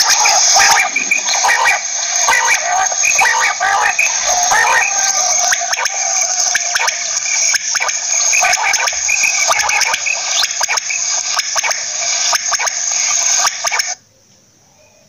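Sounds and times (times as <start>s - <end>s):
quail calling: 0.0s - 14.0s.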